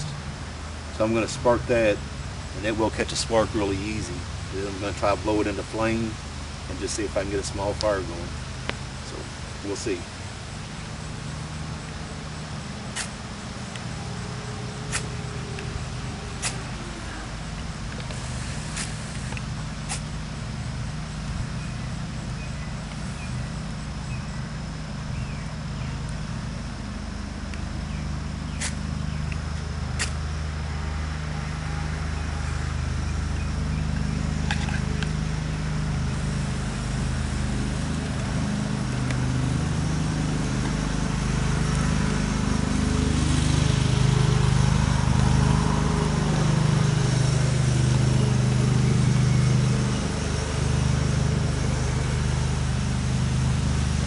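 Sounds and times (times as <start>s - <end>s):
low steady engine-like hum: 0.0s - 54.0s.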